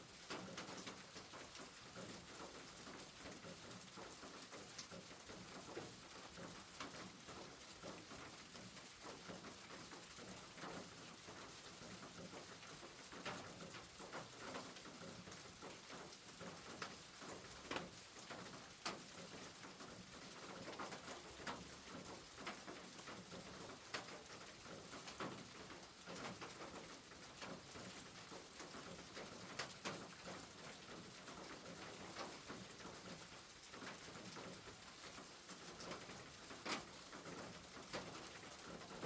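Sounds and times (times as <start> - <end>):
light rain falling: 0.0 - 39.0.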